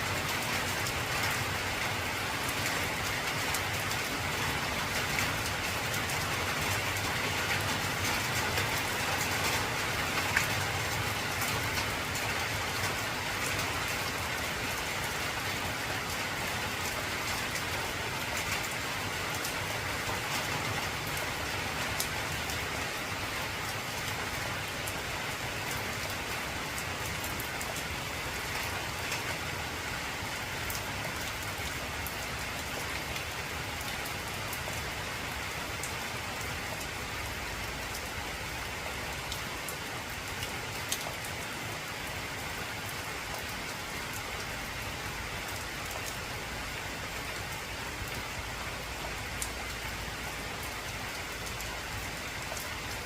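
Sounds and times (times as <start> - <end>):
heavy rain on a tin roof: 0.0 - 53.0.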